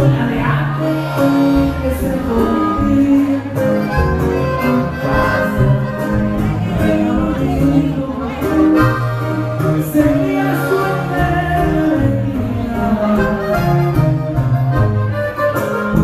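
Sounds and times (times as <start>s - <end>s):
bass line: 0.0s - 16.0s.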